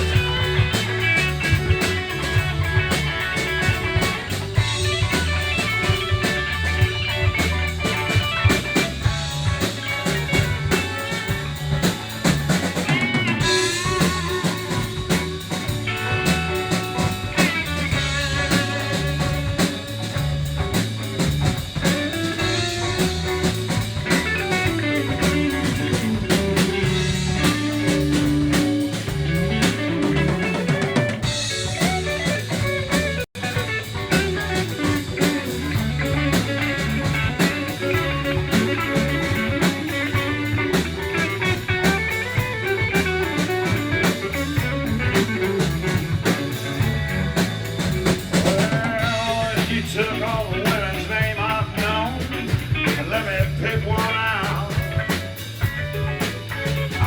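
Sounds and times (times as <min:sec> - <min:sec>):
drum kit beat: 0:00.0 - 0:57.0
electric guitar: 0:00.0 - 0:57.0
live rock band playing: 0:00.0 - 0:57.0.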